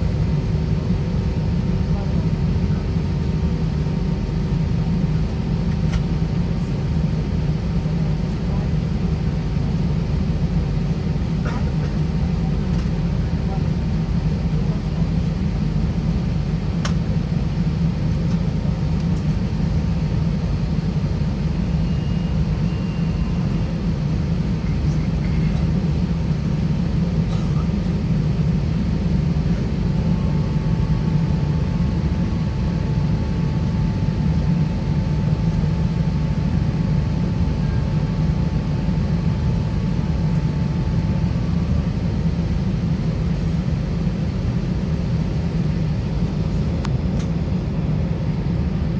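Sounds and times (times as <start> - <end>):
aircraft cabin rumble: 0.0 - 48.9.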